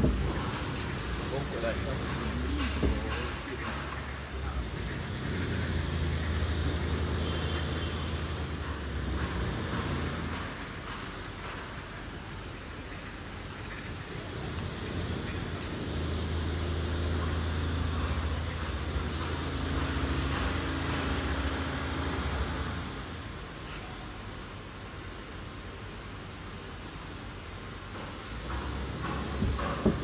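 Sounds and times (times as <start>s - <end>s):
motor vehicle engine humming: 0.0s - 23.6s, 26.6s - 30.0s.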